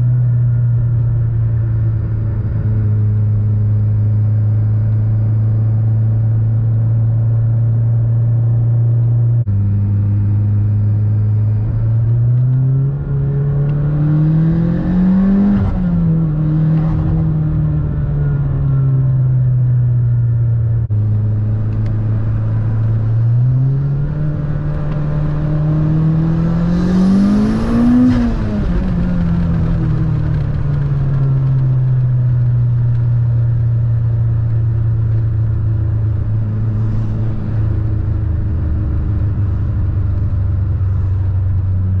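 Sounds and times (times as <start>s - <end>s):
car engine running inside cabin: 0.0s - 42.0s.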